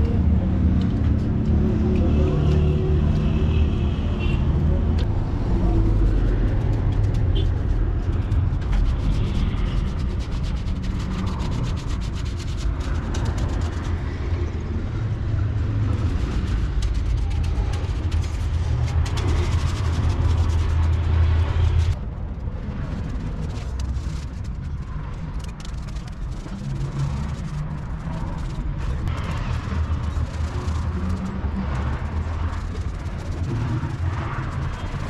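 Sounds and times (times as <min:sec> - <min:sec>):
steady low drone: 0:00.0 - 0:35.0.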